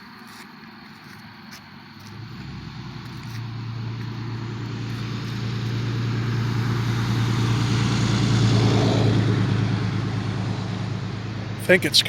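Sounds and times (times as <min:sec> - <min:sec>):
car tyre noise: 0:00.0 - 0:12.0
low engine hum: 0:00.1 - 0:12.0.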